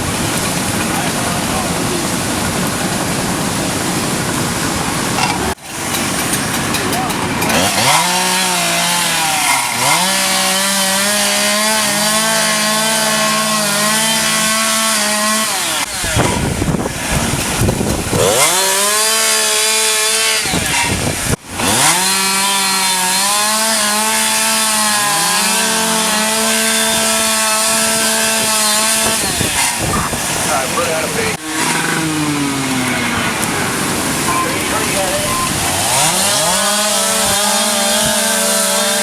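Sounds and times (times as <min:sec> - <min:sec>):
chainsaw engine revving: 0:00.0 - 0:39.0.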